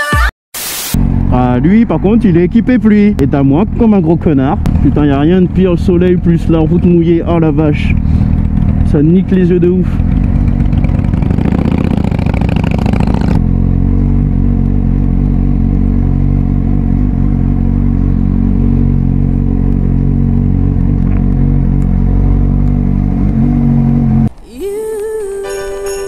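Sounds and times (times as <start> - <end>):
motorcycle engine running: 1.0 - 24.3.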